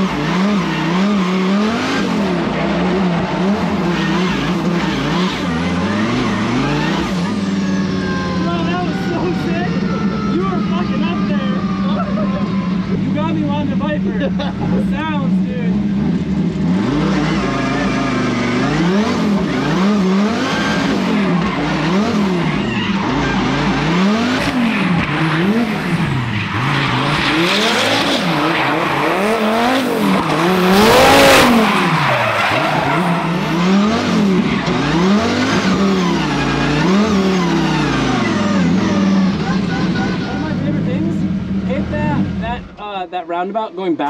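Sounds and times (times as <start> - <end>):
car engine revving: 0.0 - 43.0
tyres skidding: 0.0 - 44.0.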